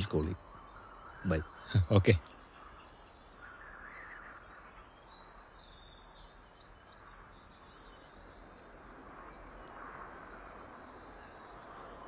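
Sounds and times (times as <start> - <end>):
low steady hiss: 0.0 - 12.0
small birds chirping: 0.0 - 12.0.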